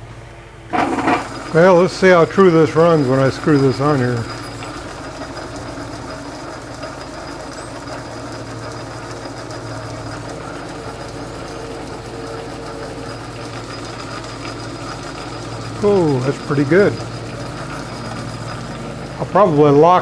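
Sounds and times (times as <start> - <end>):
metal lathe humming: 0.5 - 20.0.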